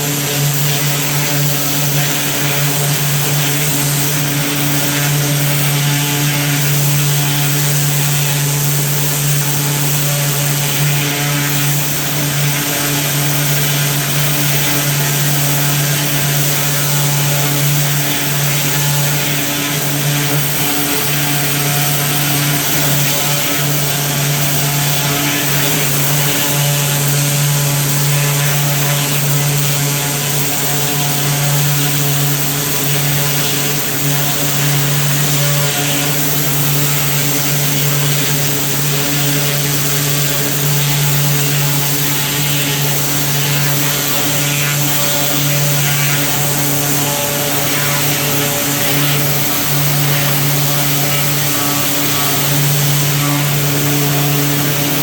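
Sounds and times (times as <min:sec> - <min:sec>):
continuous hiss: 0:00.0 - 0:55.0
small gasoline engine running: 0:00.0 - 0:55.0.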